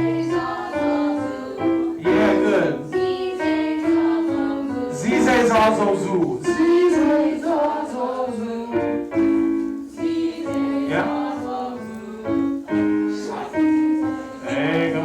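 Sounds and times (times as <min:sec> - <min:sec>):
chorus singing warm-up: 0:00.0 - 0:15.0
piano: 0:00.0 - 0:15.0.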